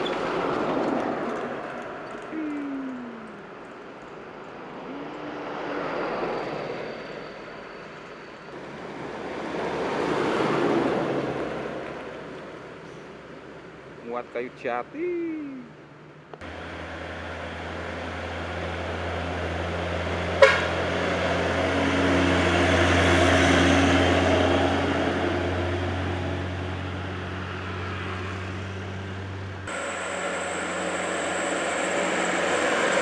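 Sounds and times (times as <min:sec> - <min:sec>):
road noise: 0:00.0 - 0:33.0
heavy truck engine drone: 0:02.2 - 0:14.1, 0:16.4 - 0:33.0.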